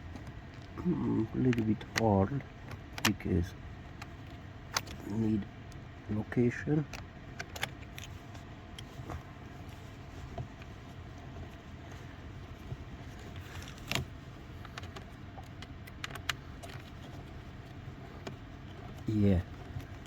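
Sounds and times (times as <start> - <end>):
steady low hum: 0.0 - 20.0
clicks and rattles of parts: 0.1 - 5.8, 6.7 - 20.0.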